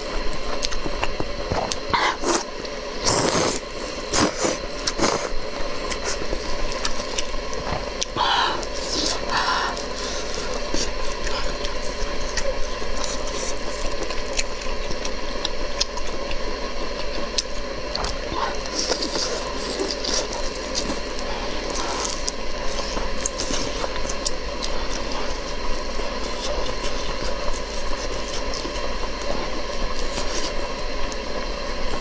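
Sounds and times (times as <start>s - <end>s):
low hum: 0.0s - 32.0s
person chewing: 0.0s - 32.0s.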